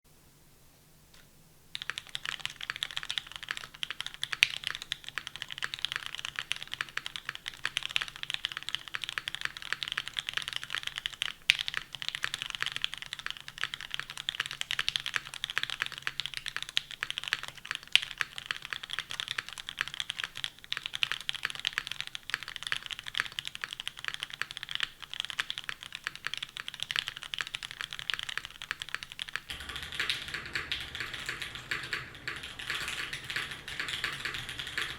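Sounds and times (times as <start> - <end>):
mechanical keyboard typing: 1.7 - 34.9.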